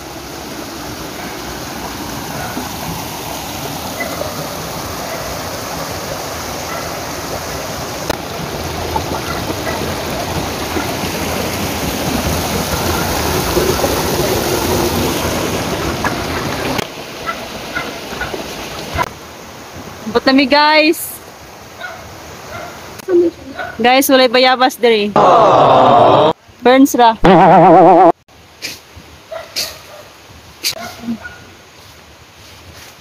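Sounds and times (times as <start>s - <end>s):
stream rushing over boulders: 0.0s - 27.0s, 28.3s - 33.0s.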